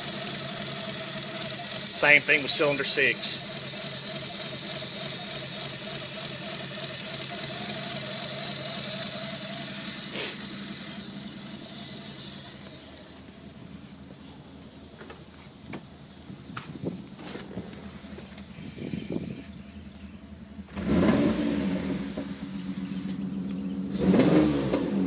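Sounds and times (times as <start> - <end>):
misfiring engine running: 0.0 - 25.0.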